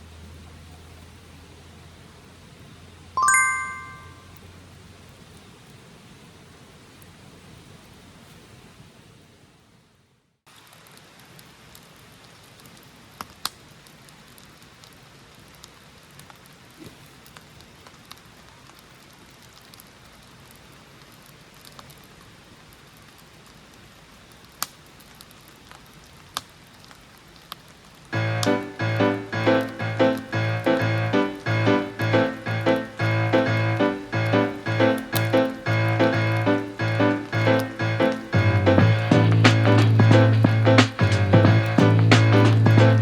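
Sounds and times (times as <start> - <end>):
steady rain falling: 0.0 - 3.6, 4.3 - 43.0.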